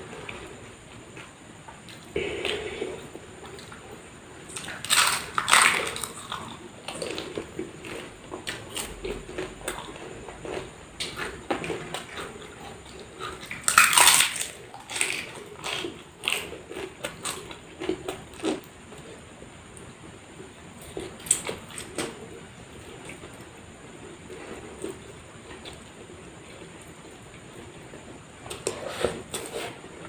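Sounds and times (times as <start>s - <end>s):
crunchy food chewing: 0.1s - 19.9s, 20.8s - 29.8s.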